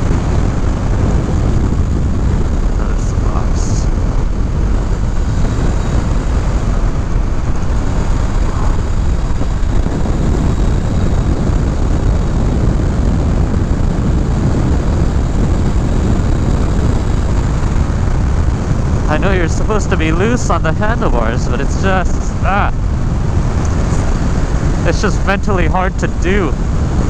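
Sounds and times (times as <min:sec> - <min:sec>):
motorcycle engine running: 0:00.0 - 0:27.0
wind rushing across microphone: 0:00.0 - 0:27.0.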